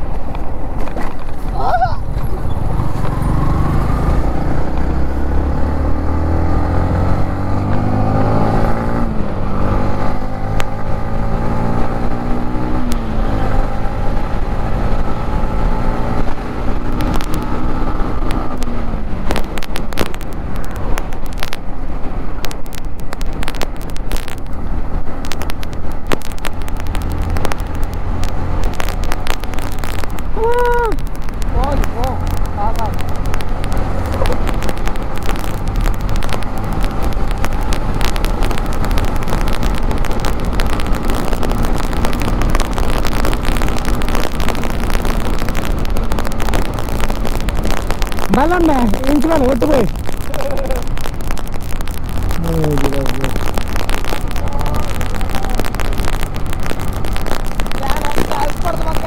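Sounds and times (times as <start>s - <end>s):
crackles: 0.0s - 59.0s
motorcycle engine revving: 1.3s - 59.0s.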